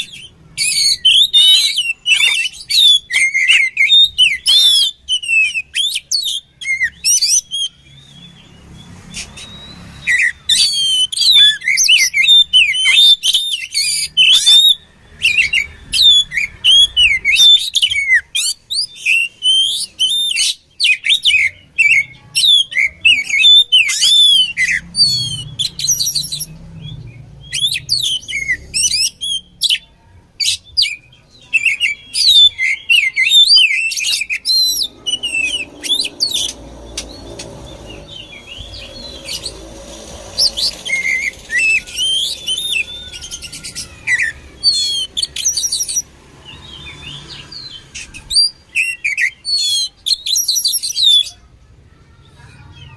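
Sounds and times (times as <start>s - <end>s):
songbird singing: 0.0s - 52.2s.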